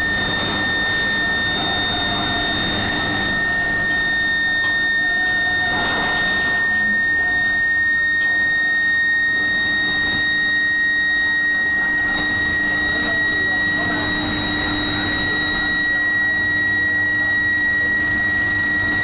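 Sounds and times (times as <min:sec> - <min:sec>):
high-pitched induction heater whine: 0:00.0 - 0:19.0.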